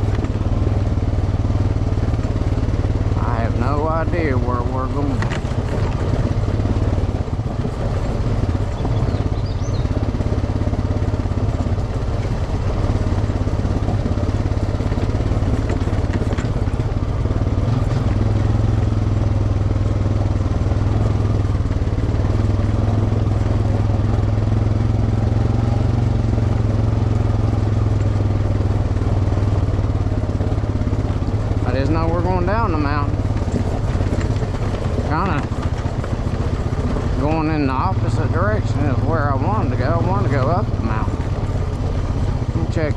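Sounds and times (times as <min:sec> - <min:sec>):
vehicle engine droning: 0:00.0 - 0:42.9.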